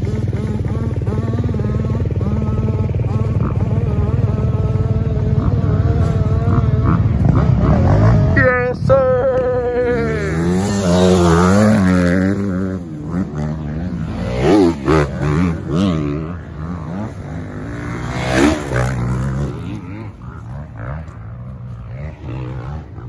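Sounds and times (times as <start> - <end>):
atv engines running: 0.0 - 23.0
dirt bike engine revving: 0.0 - 23.0.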